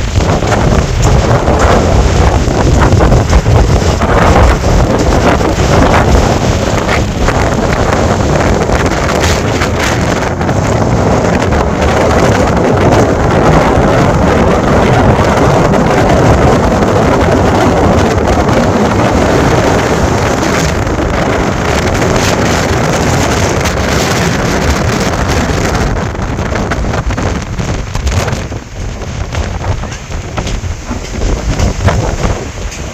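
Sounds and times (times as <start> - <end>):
rough sea surf: 0.0 - 32.9
strong wind on microphone: 0.0 - 32.9.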